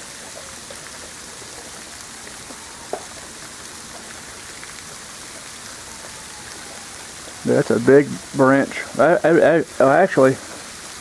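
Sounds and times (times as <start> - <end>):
freezing rain hissing: 0.0 - 11.0.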